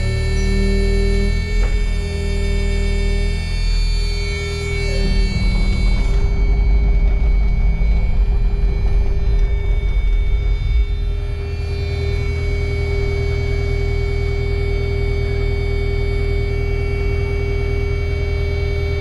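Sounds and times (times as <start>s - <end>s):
excavator running: 0.0s - 16.0s
machine whine: 0.0s - 19.0s.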